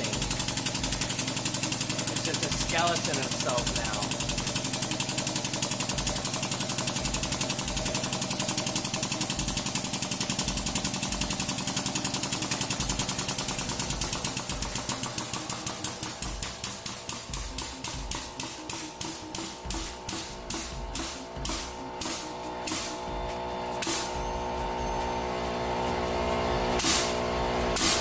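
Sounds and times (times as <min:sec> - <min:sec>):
hydraulic press pump pulsing: 0:00.0 - 0:28.0.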